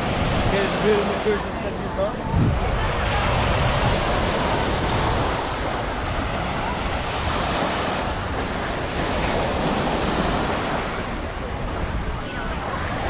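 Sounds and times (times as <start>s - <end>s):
sea waves washing onto beach: 0.0s - 13.0s
wind buffeting microphone: 0.0s - 13.0s.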